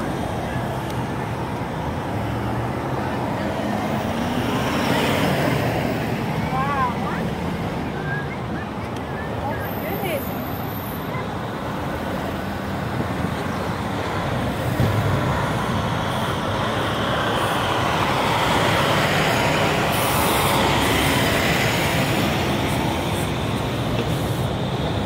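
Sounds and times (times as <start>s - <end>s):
vehicles driving past: 0.0s - 25.0s.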